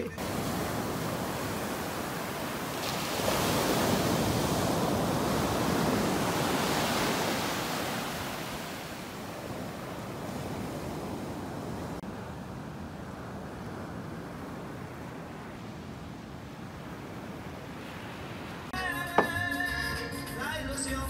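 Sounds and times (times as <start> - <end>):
waves breaking on beach: 0.0 - 18.8.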